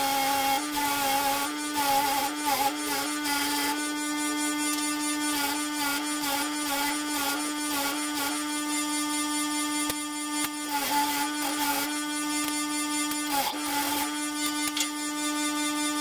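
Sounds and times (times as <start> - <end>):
bench grinder motor hum: 0.0 - 16.0.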